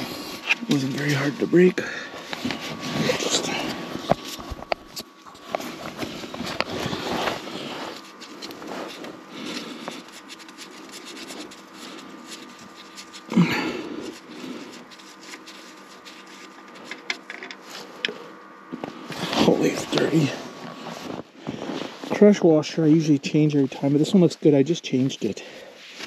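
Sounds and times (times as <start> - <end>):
jacket and tools rustling: 0.0 - 22.4.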